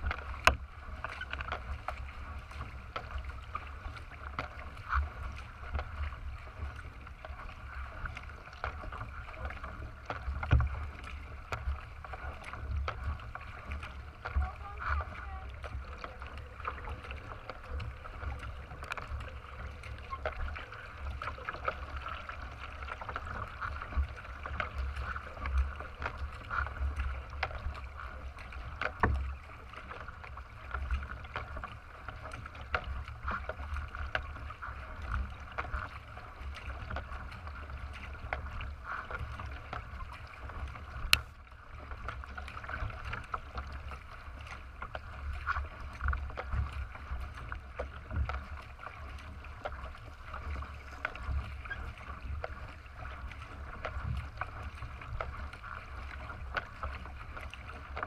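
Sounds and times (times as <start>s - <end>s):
water splashing along kayak hull: 0.0s - 58.0s.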